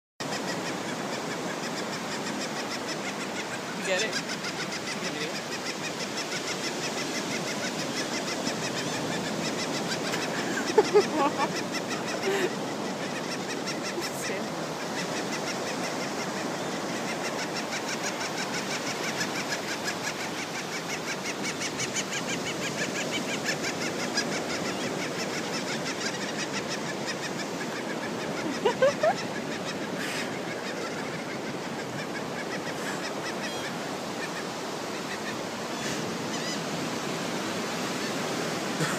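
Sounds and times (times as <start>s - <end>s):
gulls calling rapidly: 0.2s - 36.8s
loud rising gull call: 0.2s - 36.8s
wind and surf hiss: 0.2s - 38.9s.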